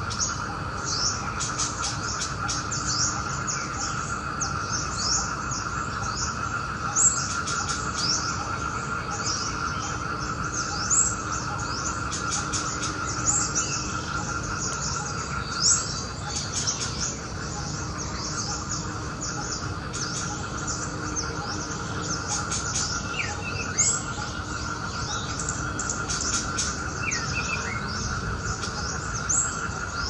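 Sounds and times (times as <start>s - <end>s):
small birds chirping: 0.0s - 30.0s
steady hum: 0.0s - 30.0s.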